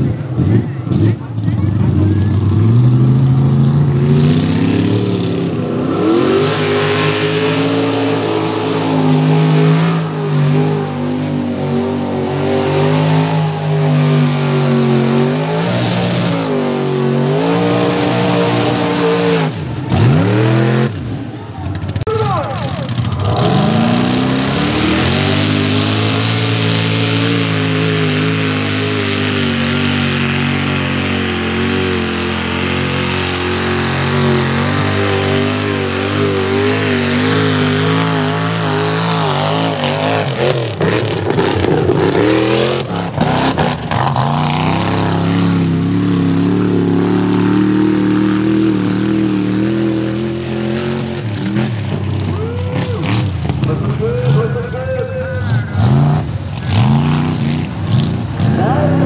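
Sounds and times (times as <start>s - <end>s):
truck engine at full throttle: 0.0s - 59.0s.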